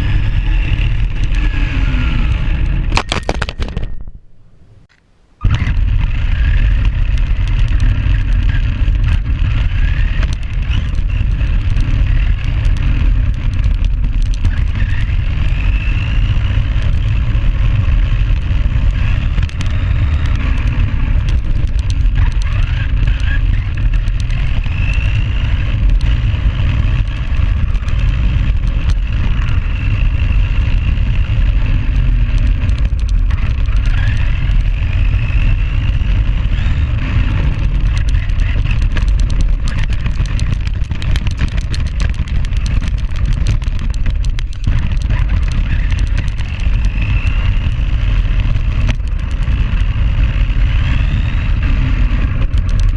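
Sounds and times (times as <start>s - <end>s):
tyres rumbling over ground: 0.0s - 52.9s.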